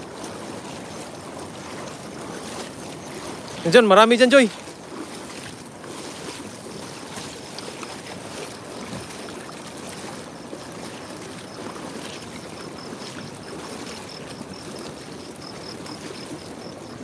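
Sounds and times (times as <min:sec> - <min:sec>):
wading through splashing floodwater: 0:00.0 - 0:17.0.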